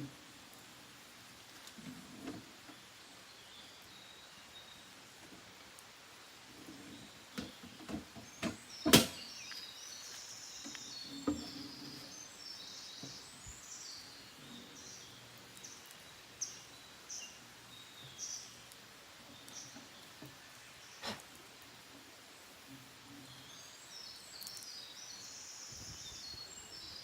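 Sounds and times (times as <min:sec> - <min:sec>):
wild birds singing: 0:00.0 - 0:27.0.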